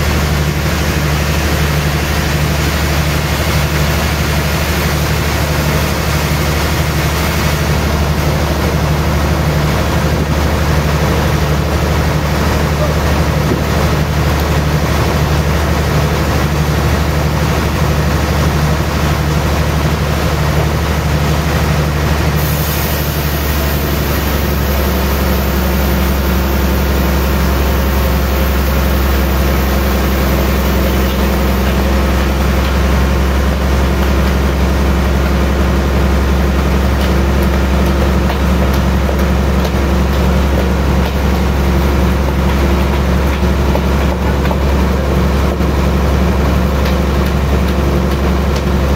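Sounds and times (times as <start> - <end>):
band saw low hum: 0.0 - 48.9.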